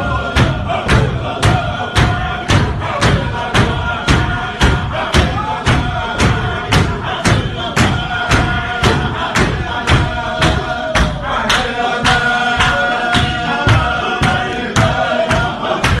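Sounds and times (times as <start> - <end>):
crowd beating a steady rhythm: 0.0 - 16.0
men chanting: 0.0 - 16.0.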